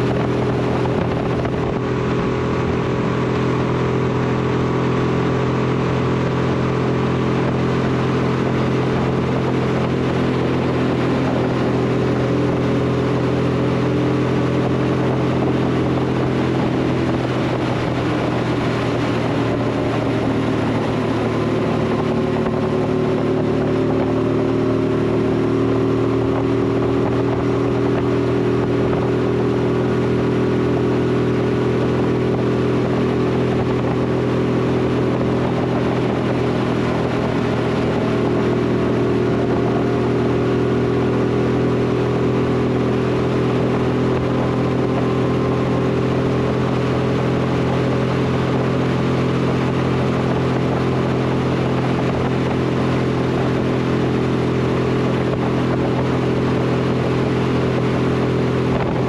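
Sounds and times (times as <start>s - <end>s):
motorcycle engine running: 0.0s - 59.0s
road and wind hiss: 0.0s - 59.0s.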